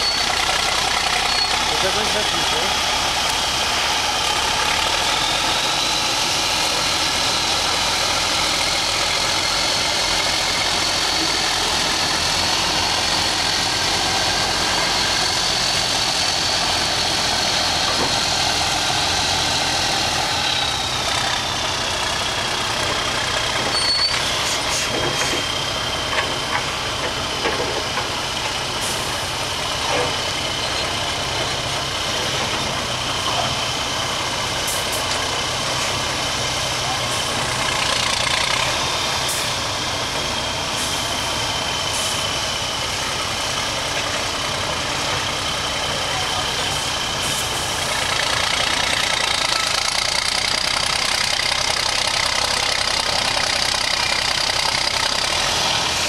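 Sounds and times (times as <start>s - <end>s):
truck diesel engine running: 0.0s - 56.0s.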